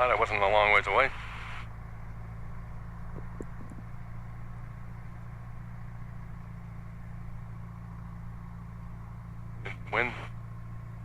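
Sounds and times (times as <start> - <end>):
light aircraft engine running rough: 0.0 - 11.0.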